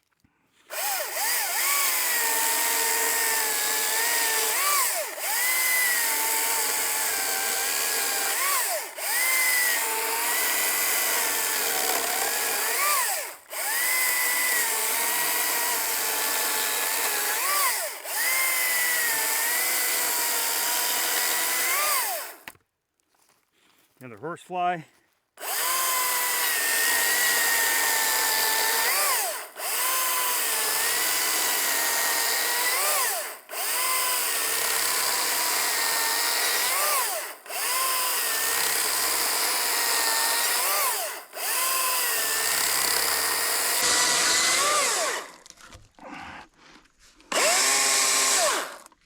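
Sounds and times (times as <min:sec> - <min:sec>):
electric chainsaw cutting log: 0:00.7 - 0:22.6, 0:25.4 - 0:45.8, 0:47.3 - 0:49.0.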